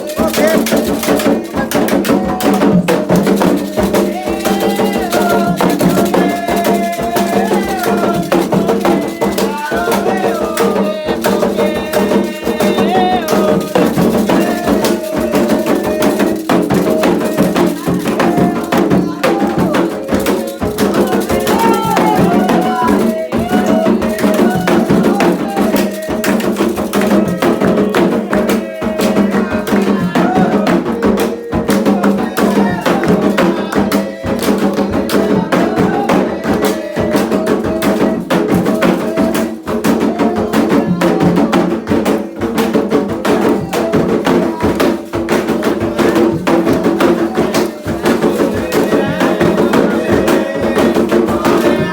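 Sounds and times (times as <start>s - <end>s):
drumming: 0.0s - 51.9s
people singing chant: 0.0s - 51.9s
wood block percussion: 0.0s - 51.9s.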